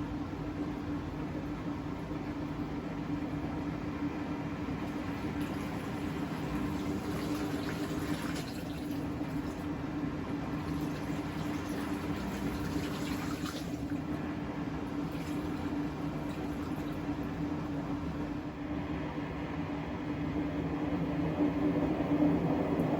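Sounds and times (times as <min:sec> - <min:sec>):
washing machine humming: 0:00.0 - 0:22.9.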